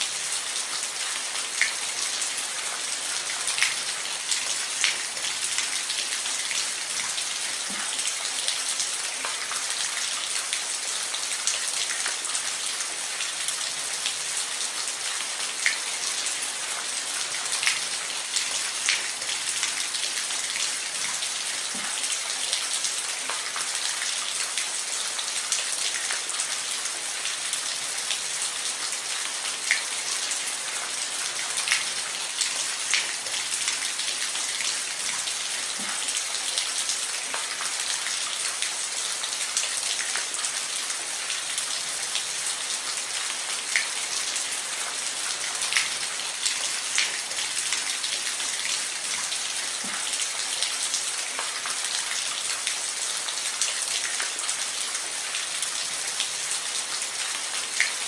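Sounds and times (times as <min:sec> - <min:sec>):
rain hissing on roof: 0:00.0 - 0:58.0.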